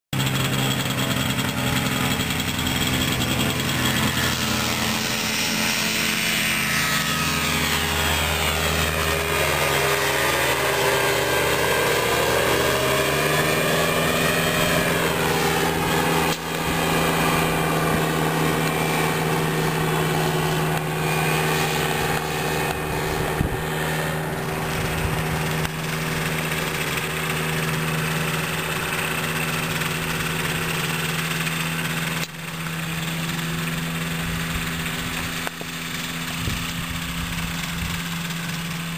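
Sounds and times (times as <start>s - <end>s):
ultralight engine and propeller running: 0.1s - 38.9s.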